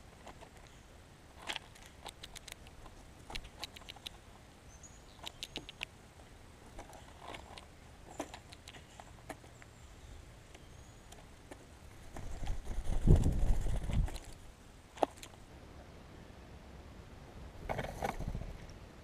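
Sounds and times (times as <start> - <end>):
birds pecking seed: 0.0 - 15.5.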